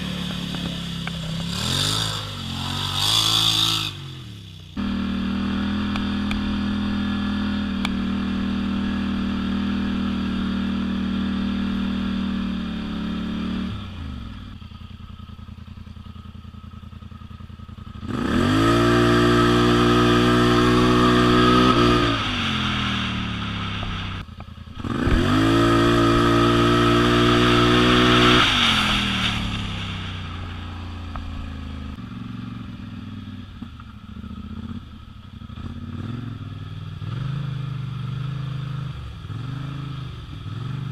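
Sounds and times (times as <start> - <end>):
atv engine revving and idling: 0.0 - 40.9.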